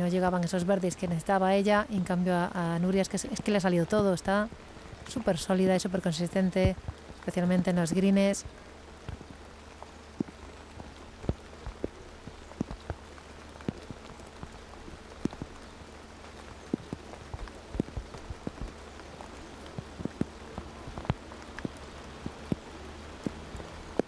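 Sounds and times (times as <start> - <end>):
low steady hum: 0.0 - 24.0
raindrops tapping: 0.0 - 24.0.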